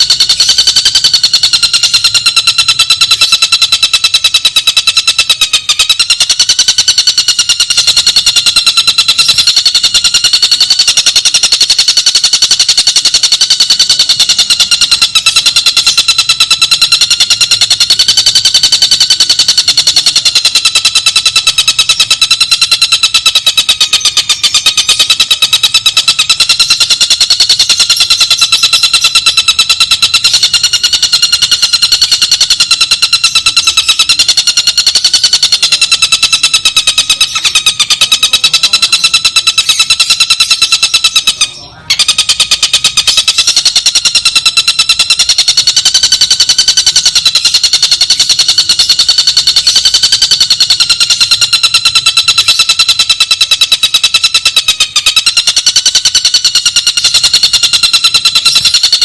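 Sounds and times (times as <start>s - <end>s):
kingfisher rattling trill: 0.0s - 59.0s.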